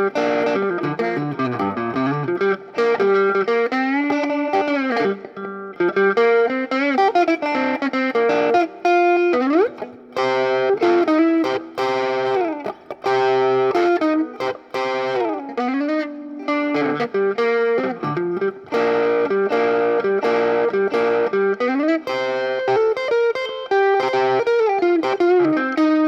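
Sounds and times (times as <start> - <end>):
electric guitar lead and chords: 0.0 - 26.0.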